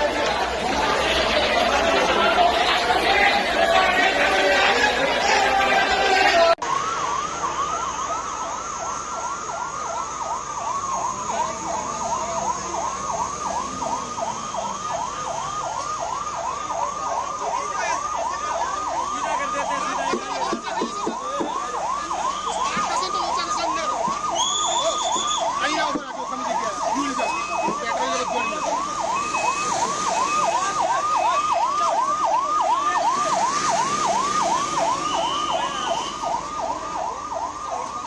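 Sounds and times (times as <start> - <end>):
emergency siren yelping: 0.0 - 38.0.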